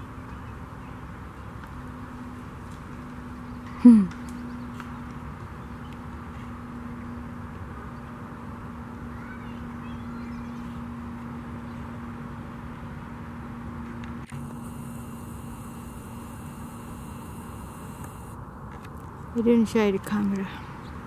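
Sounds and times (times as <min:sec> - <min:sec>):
constant low hum: 0:00.0 - 0:21.0.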